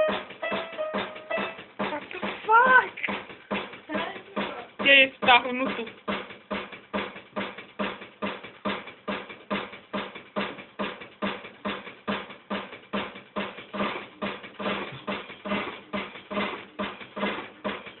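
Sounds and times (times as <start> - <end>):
steady percussive beat: 0.0 - 18.0.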